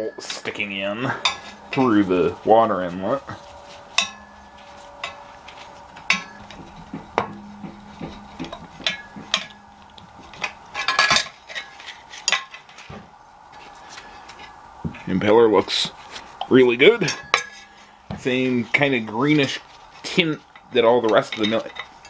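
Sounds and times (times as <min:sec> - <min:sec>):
tools clanking on metal: 0:00.0 - 0:13.2, 0:15.8 - 0:22.0.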